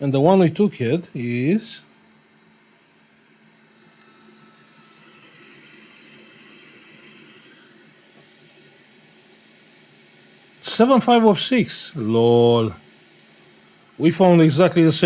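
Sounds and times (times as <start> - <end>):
hot air blowing hiss: 0.1 - 15.0.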